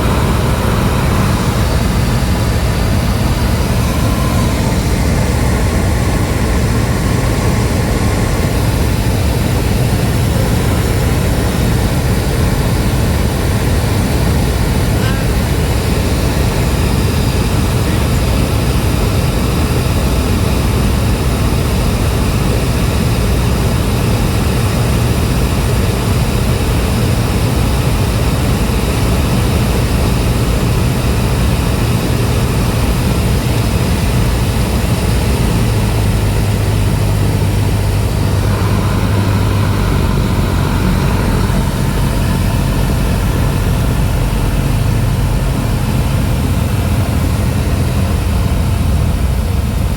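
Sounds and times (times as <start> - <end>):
propeller plane engine running: 0.0 - 49.9.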